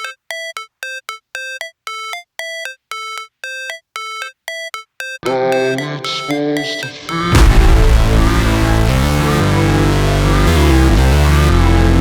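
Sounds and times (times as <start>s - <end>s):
full beat: 0.0s - 12.0s.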